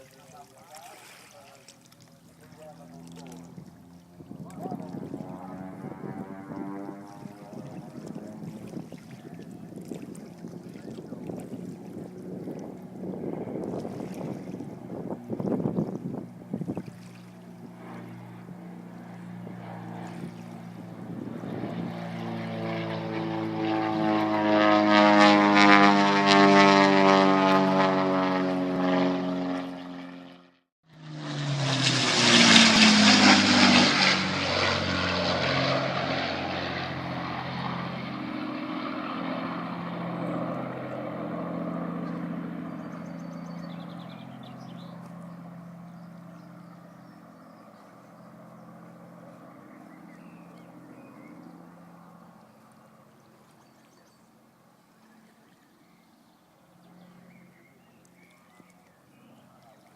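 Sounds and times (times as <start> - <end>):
propeller aircraft flying overhead: 0.0 - 59.9.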